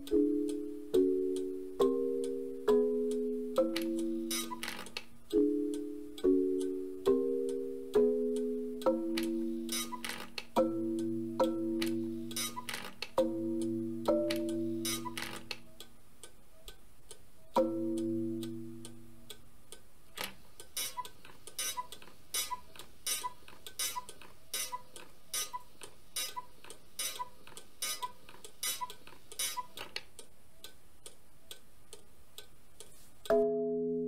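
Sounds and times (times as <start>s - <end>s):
clock ticking: 0.0s - 33.4s.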